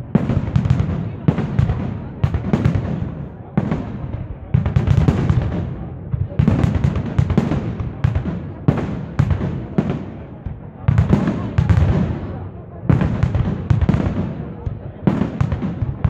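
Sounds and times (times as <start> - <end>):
fireworks bursting with rumble: 0.0 - 16.0.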